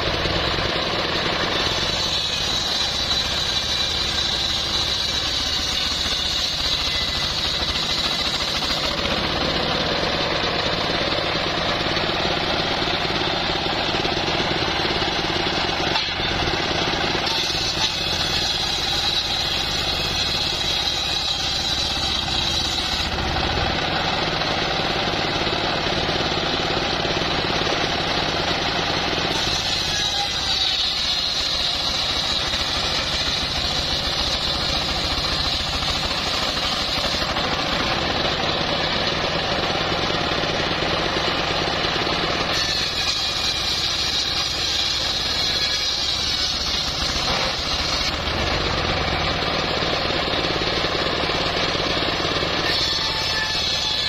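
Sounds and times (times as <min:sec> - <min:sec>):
circular saw blade cutting wood: 0:00.0 - 0:54.0
engine running: 0:00.0 - 0:54.0.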